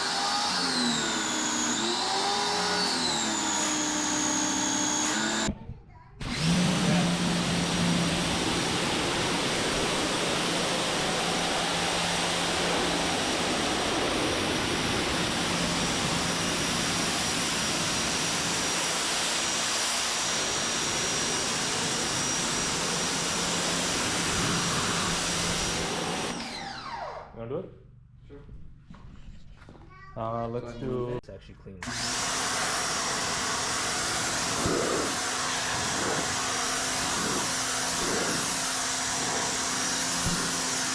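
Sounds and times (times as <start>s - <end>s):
high-pressure water jet hissing: 0.0s - 5.5s, 6.3s - 26.4s, 31.9s - 40.9s
pressure washer motor humming: 0.0s - 5.5s, 6.2s - 26.7s, 31.8s - 40.9s.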